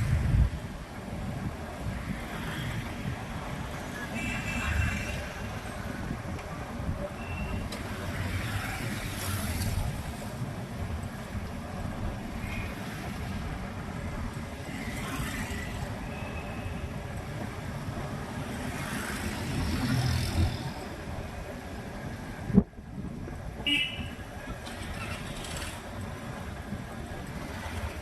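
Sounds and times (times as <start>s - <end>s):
traffic rumble from motorbike: 0.0s - 28.0s.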